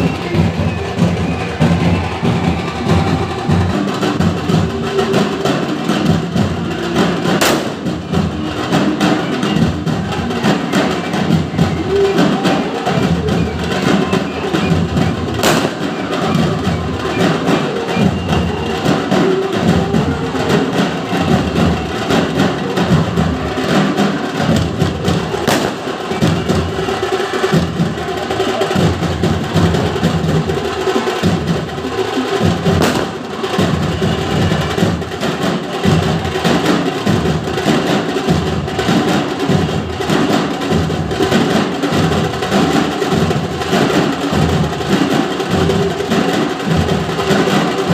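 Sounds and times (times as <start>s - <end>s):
drum ensemble drumming: 0.0s - 47.9s.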